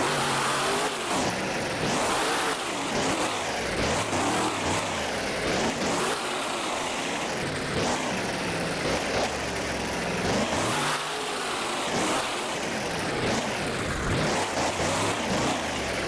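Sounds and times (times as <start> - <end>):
truck engine revving hard: 0.0 - 16.0.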